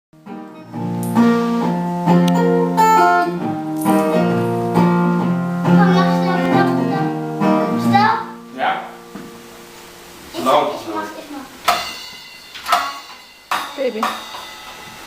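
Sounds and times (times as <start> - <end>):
guitar chords ringing: 0.2 - 15.0.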